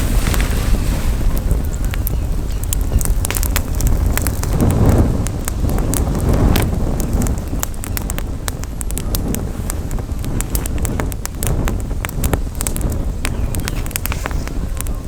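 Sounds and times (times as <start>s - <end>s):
campfire crackling: 0.0s - 15.0s
wind on microphone: 0.0s - 15.0s.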